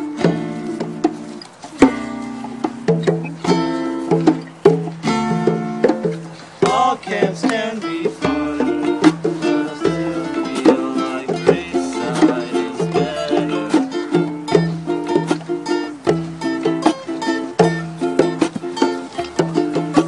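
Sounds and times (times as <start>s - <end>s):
plucked string instrument music: 0.0s - 20.0s.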